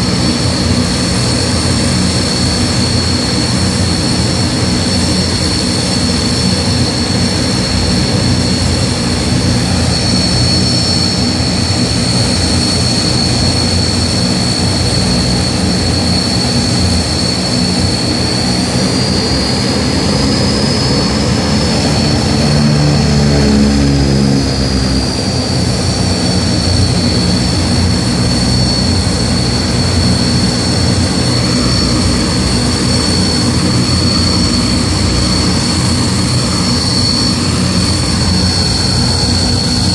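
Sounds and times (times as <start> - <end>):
high-pitched turbine whine: 0.0 - 39.9
propeller drone: 0.0 - 39.9.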